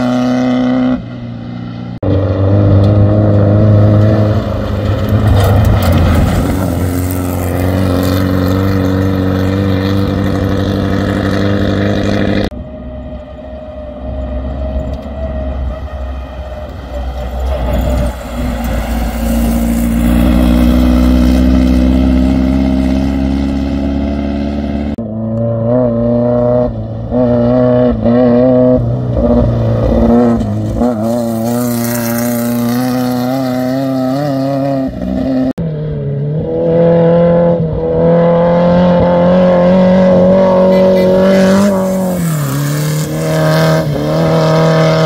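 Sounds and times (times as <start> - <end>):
race car engines revving: 0.0 - 45.0.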